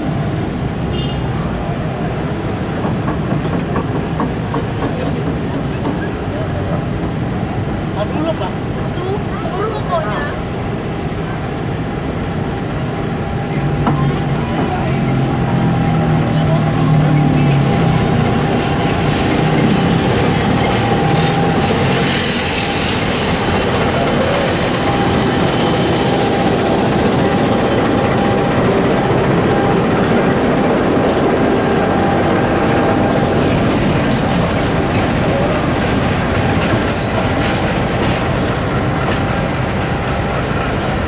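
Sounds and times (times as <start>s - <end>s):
diesel locomotive engine: 0.0s - 41.0s
train wheels on rails: 0.0s - 41.0s.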